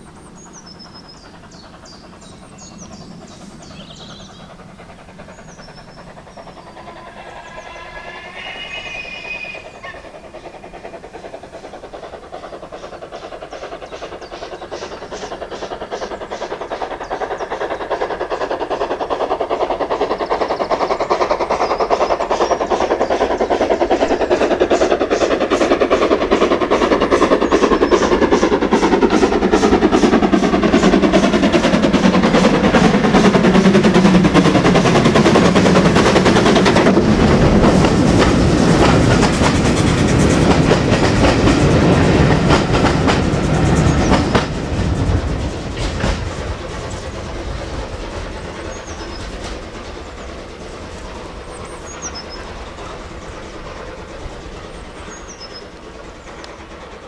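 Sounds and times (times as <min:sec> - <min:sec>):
steam locomotive exhaust beats: 0:00.0 - 0:57.0.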